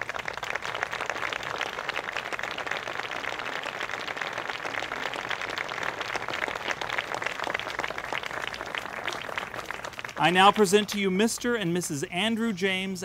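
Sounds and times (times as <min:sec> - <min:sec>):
crowd applauding: 0:00.0 - 0:11.7.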